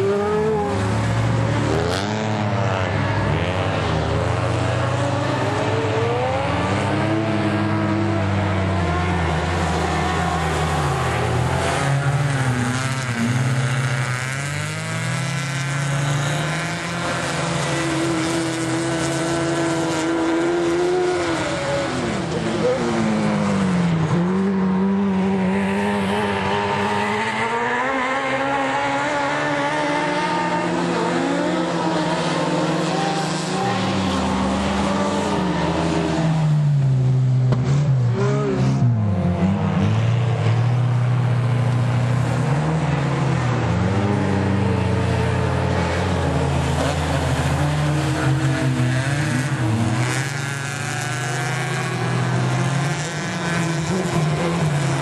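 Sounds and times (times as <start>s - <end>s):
racing car engines revving: 0.0s - 55.0s.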